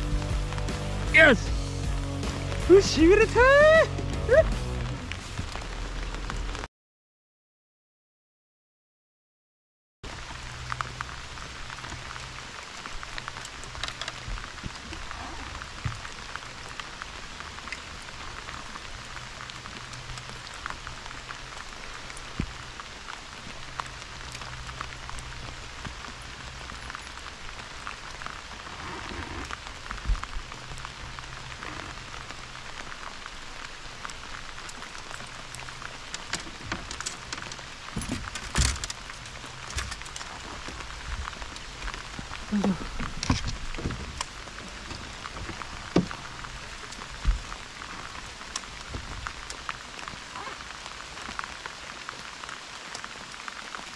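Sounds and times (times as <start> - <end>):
rain on water and boat: 0.0 - 6.7, 10.0 - 53.9.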